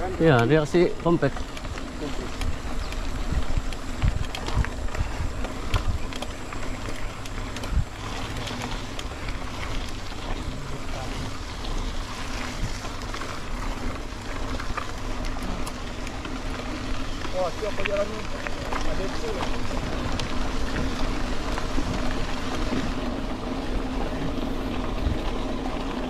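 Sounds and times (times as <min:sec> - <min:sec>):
vehicle rumbling on dirt road: 0:00.0 - 0:26.0.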